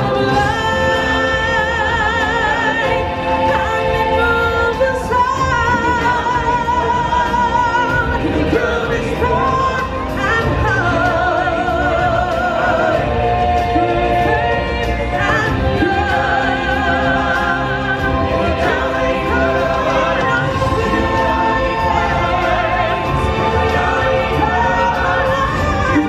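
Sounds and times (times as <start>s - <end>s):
full band backing: 0.0s - 26.0s.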